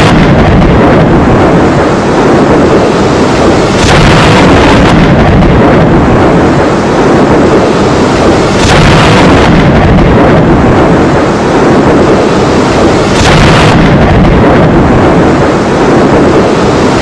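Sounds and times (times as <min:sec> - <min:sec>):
deep rumble: 0:00.0 - 0:17.0
heavy rain pouring: 0:00.0 - 0:17.0.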